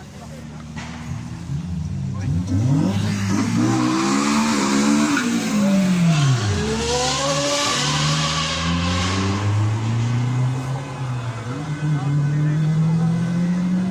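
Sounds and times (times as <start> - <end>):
sports car engine revving: 0.0 - 13.9.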